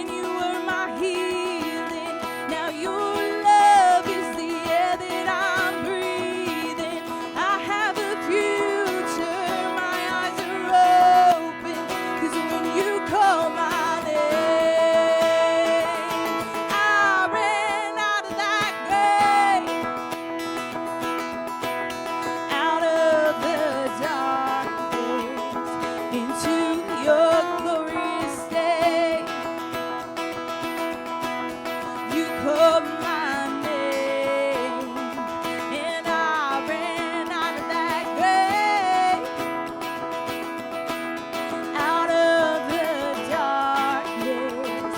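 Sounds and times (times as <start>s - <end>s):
worship music with acoustic guitar: 0.0s - 44.9s.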